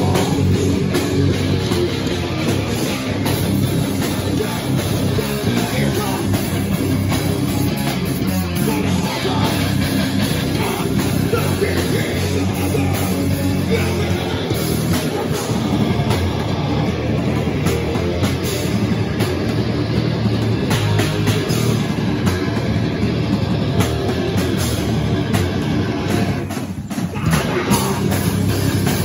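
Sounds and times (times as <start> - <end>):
distorted electric guitars: 0.0 - 29.0
drum kit: 0.0 - 29.0.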